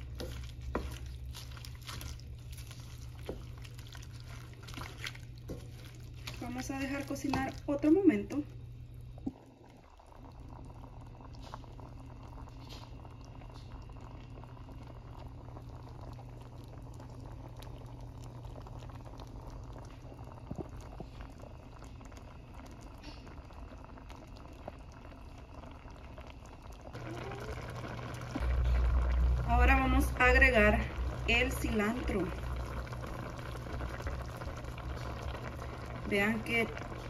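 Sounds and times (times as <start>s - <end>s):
low hum: 0.0s - 37.0s
sauce bubbling in a pot: 0.0s - 37.0s.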